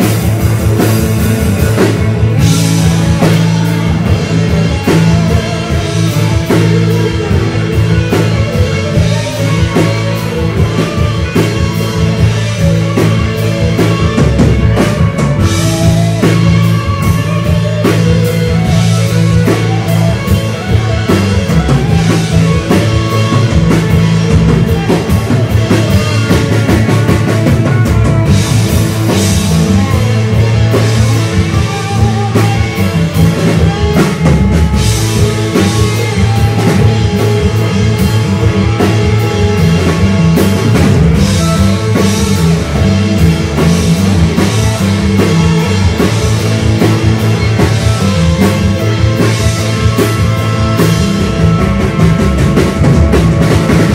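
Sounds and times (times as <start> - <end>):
distorted electric guitar: 0.0 - 53.9
drum kit: 0.0 - 53.9
heavy bass line: 0.0 - 53.9.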